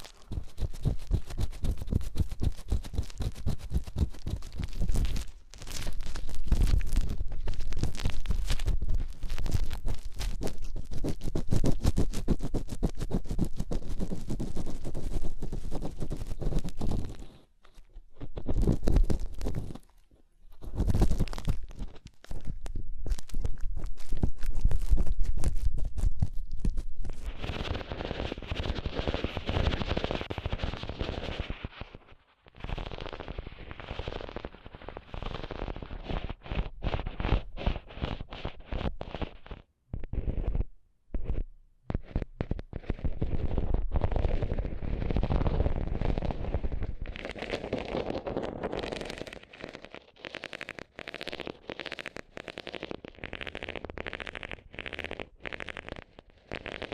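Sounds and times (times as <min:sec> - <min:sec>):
crackling and scratching on microphone: 0:00.0 - 0:56.9.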